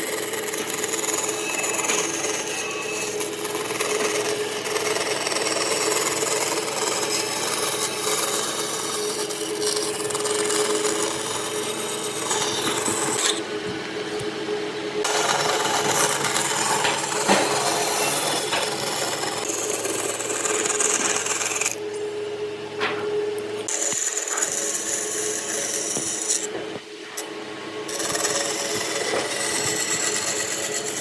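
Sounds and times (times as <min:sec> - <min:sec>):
motor hum: 0:00.0 - 0:31.0.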